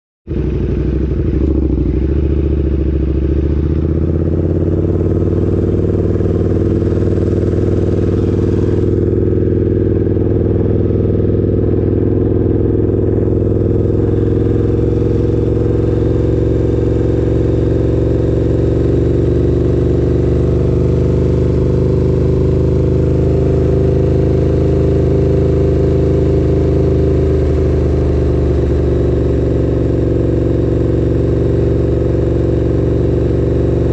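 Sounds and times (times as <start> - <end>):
motorcycle engine running: 0.2 - 33.9.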